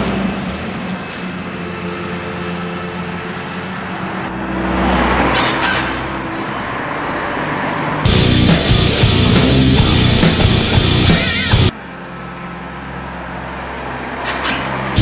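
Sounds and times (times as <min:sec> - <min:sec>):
lorry passing: 0:00.0 - 0:14.2
vehicle passing: 0:00.0 - 0:15.0.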